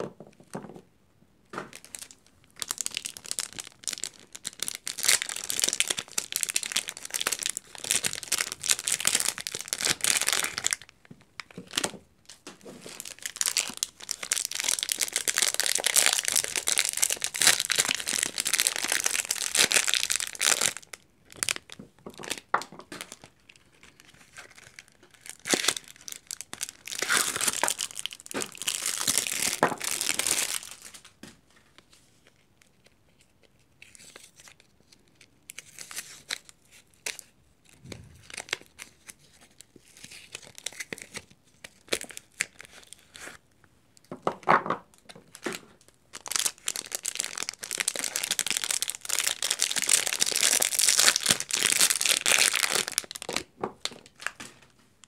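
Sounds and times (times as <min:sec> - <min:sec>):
wrapper crinkling and tearing: 0:01.7 - 0:43.4, 0:44.9 - 0:54.8.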